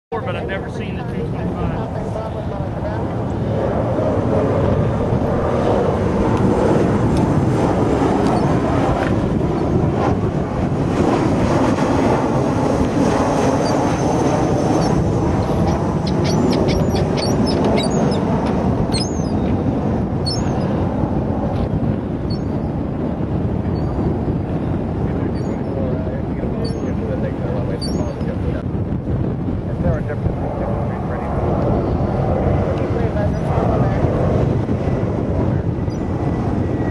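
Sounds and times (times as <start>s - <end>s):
faint high engine whine: 0.1s - 36.9s
jet engine rumble: 0.1s - 36.9s.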